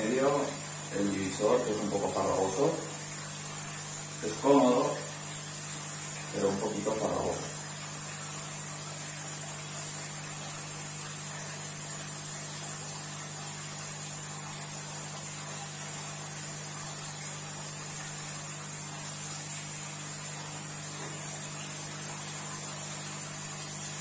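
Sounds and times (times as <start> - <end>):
aquarium equipment hiss: 0.0 - 24.0
electrical hum: 0.0 - 24.0.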